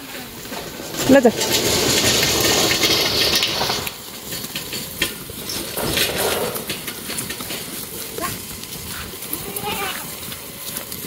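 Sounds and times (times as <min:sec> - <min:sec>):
rustling over dry grass: 0:00.0 - 0:11.0
goat hooves tapping: 0:00.2 - 0:11.0.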